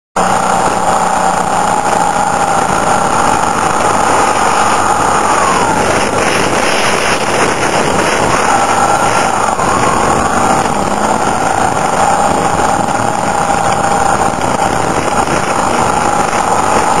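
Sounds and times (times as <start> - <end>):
motorcycle engine running: 0.2 - 17.0
wind rush on microphone: 0.2 - 17.0.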